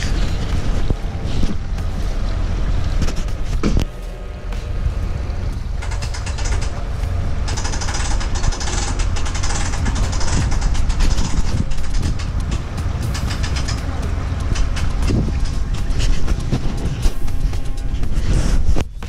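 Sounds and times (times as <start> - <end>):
trailer creaking and rattling: 0.0 - 19.0
vehicle engine rumble: 0.0 - 19.0.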